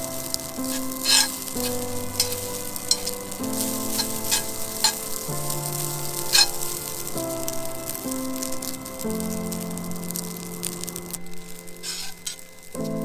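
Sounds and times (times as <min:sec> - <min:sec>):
background music of held chords: 0:00.0 - 0:13.0
food sizzling in a pan: 0:00.0 - 0:13.0.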